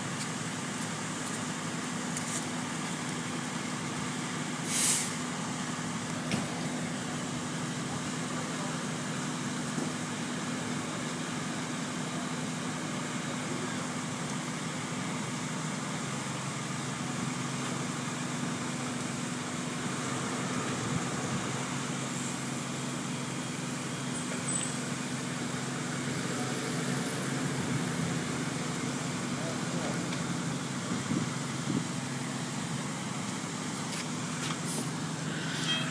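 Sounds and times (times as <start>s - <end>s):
large engine humming: 0.0s - 35.9s
outdoor noise: 0.0s - 35.9s.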